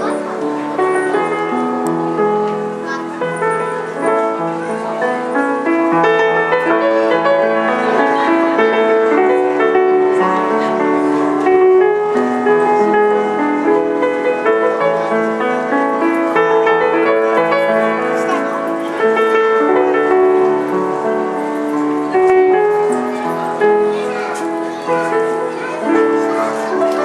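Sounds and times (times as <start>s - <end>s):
piano melody over chords: 0.0s - 27.0s.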